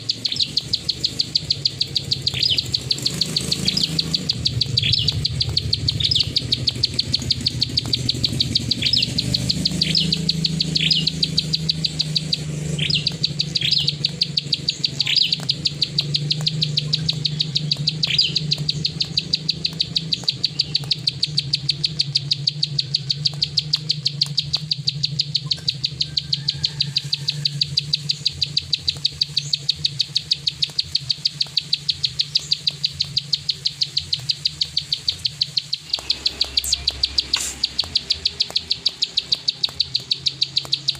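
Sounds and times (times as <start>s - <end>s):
bird clicking calls: 0.0s - 40.9s
high bird chirps: 0.0s - 40.9s.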